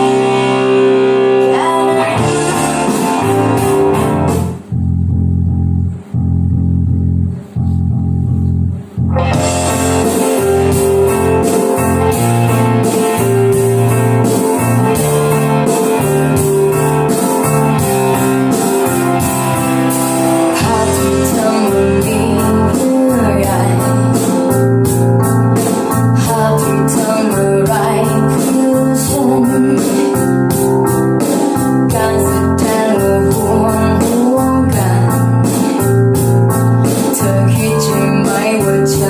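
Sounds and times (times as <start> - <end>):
pop ballad over loudspeakers: 0.0 - 4.6, 9.1 - 39.0.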